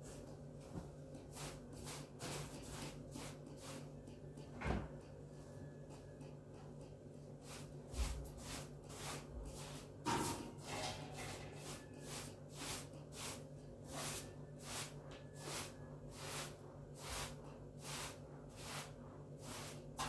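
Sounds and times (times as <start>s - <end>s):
broom sweeping floor: 0.0s - 4.1s, 7.4s - 20.0s.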